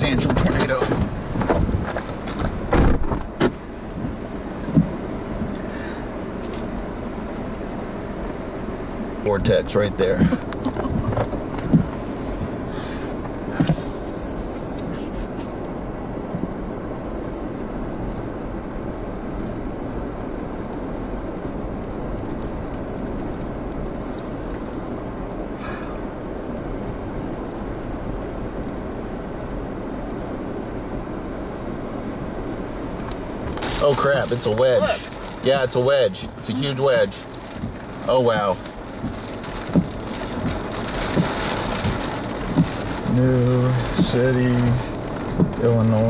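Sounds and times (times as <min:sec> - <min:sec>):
wind rumbling on microphone: 0:00.0 - 0:08.4, 0:09.2 - 0:46.0.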